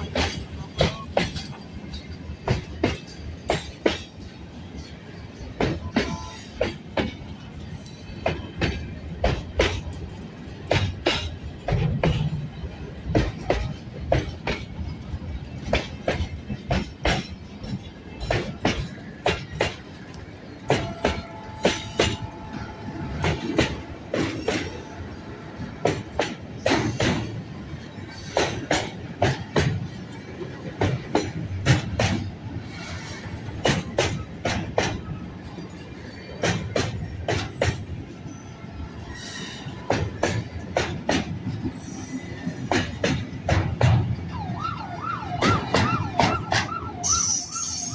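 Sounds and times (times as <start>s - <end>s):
wheels clanking over rail joints: 0.0s - 47.9s.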